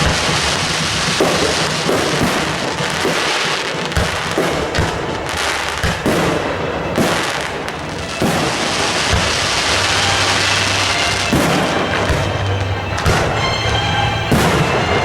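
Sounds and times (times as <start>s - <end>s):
firework bangs: 0.0s - 15.0s
fireworks crackling hiss: 0.0s - 15.0s.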